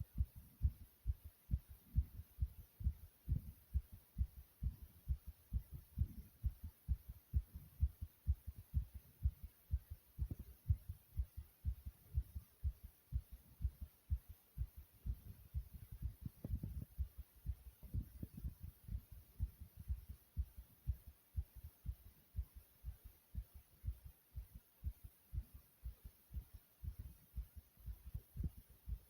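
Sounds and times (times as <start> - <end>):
heart beating fast: 0.0 - 29.0.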